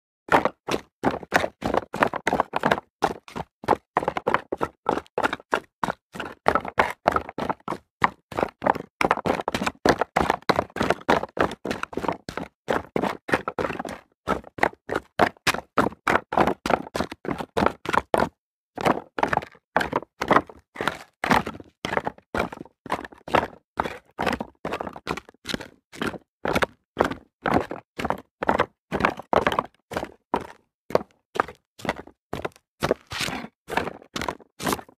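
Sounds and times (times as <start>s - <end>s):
footsteps running on rocks: 0.3s - 13.6s, 14.4s - 34.9s.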